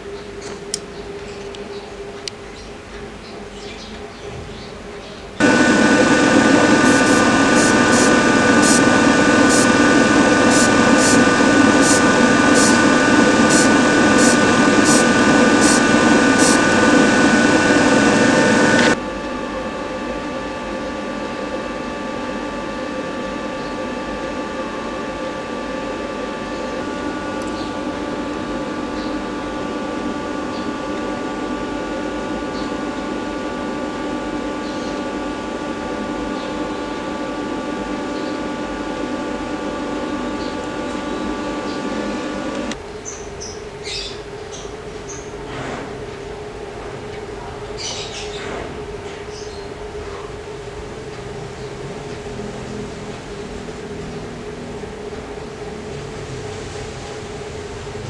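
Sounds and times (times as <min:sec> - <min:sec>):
mechanical hum: 0:00.0 - 0:58.0.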